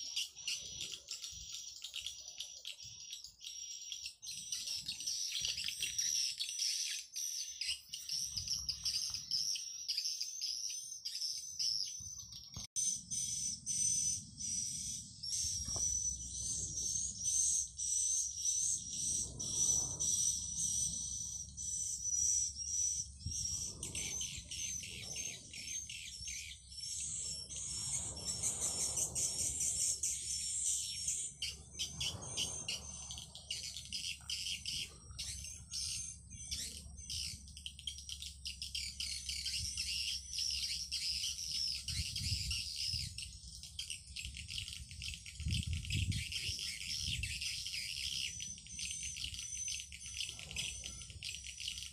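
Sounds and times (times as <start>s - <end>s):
high-pitched twittering bird chirps: 0.0s - 51.9s.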